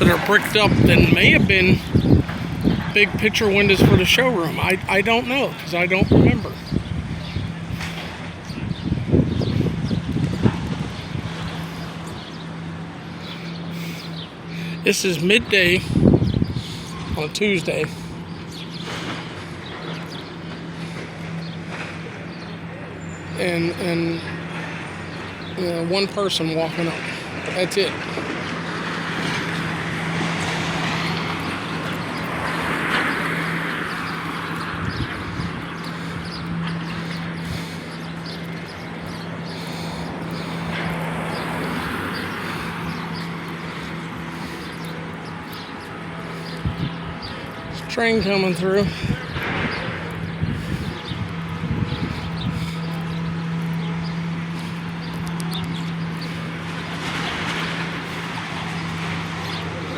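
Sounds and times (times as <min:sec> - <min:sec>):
low engine hum: 0:00.0 - 0:59.9
vehicle passing: 0:00.0 - 0:59.9.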